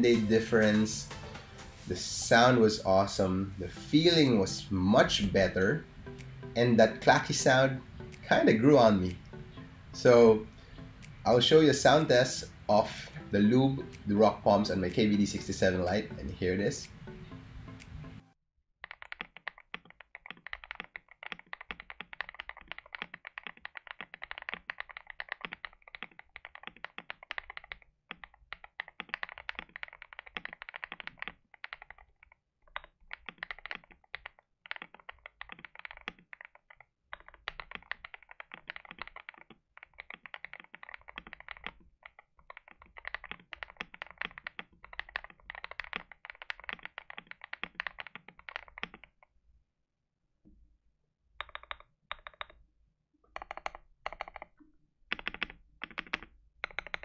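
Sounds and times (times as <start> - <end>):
mechanical keyboard typing: 0.0 - 1.4, 2.0 - 17.8, 18.8 - 49.3, 51.4 - 52.6, 53.3 - 57.0.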